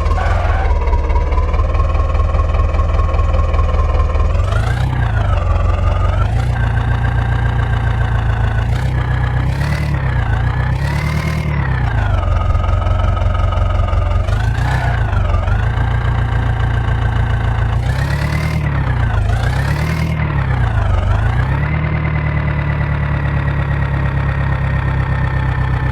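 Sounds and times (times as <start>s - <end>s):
diesel engine revving: 0.0s - 25.9s.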